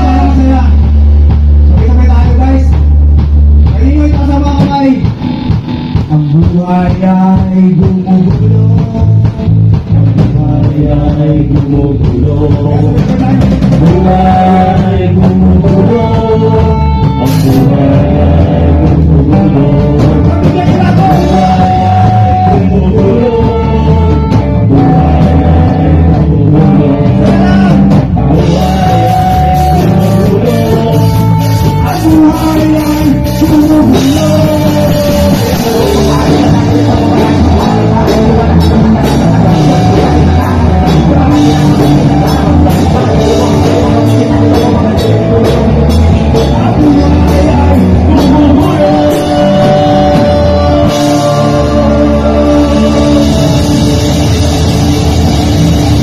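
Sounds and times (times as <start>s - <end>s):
person singing: 0.0s - 1.0s, 6.0s - 56.0s
rock band playing loudly: 0.0s - 56.0s.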